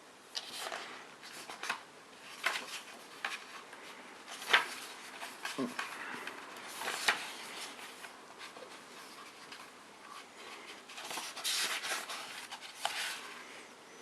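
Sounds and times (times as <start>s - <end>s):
book pages rustling: 0.3s - 13.5s.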